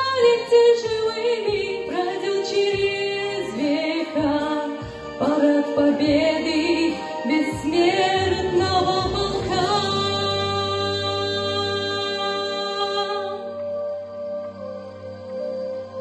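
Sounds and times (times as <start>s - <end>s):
woman singing: 0.0s - 14.0s
recorded backing music: 0.0s - 16.0s.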